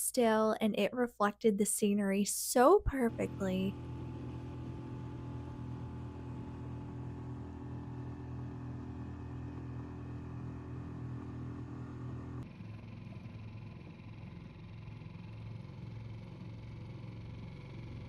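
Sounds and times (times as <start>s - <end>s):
outboard motor buzzing: 3.0s - 18.0s.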